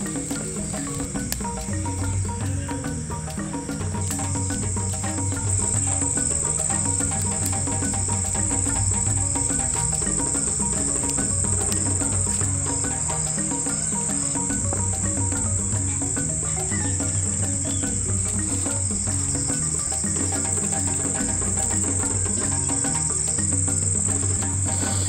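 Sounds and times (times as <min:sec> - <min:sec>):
night insects chirping: 0:00.0 - 0:25.0.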